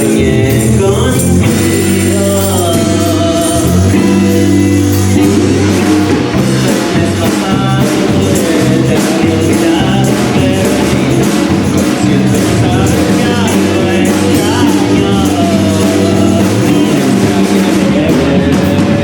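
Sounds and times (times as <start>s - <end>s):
person singing: 0.0s - 19.0s
steady percussion: 0.0s - 19.0s
sustained bass notes: 0.0s - 19.0s.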